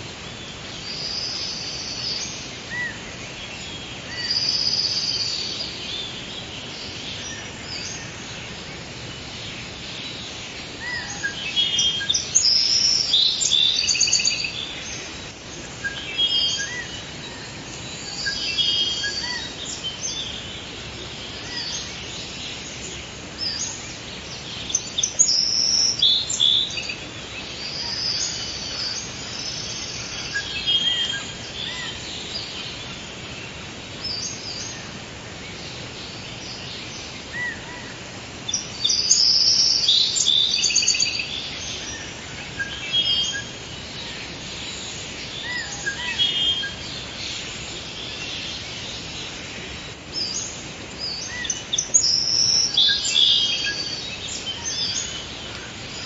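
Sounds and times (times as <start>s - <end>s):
birds chirping and trilling: 0.0s - 56.0s
faint steady hiss: 0.0s - 56.0s.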